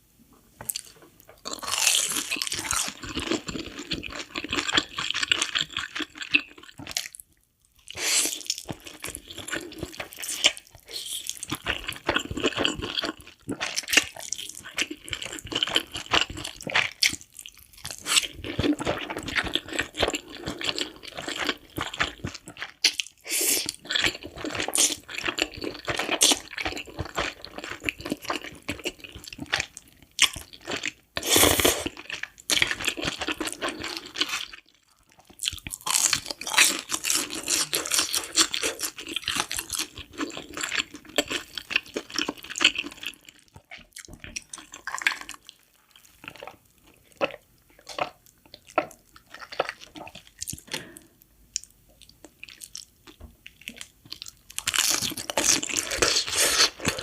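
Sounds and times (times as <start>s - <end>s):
crunching and chewing: 0.6s - 57.0s.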